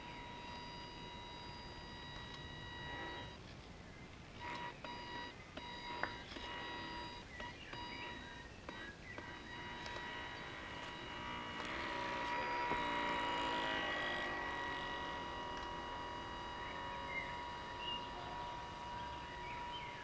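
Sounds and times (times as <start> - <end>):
electric motor whine: 0.0 - 20.0.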